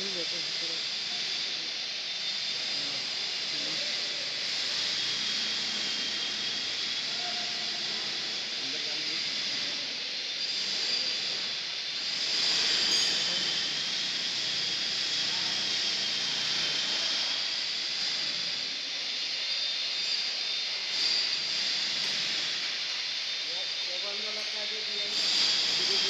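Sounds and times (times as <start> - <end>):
machine hiss with high whine: 0.0 - 26.0.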